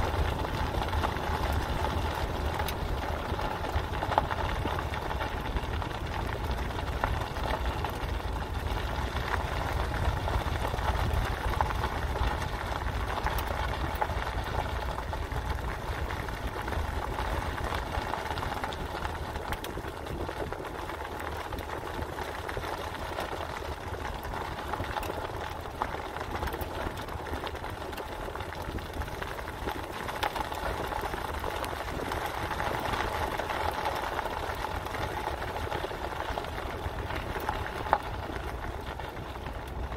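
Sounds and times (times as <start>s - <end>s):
car engine running: 0.0s - 39.9s
tyres crackling over gravel: 0.0s - 39.9s.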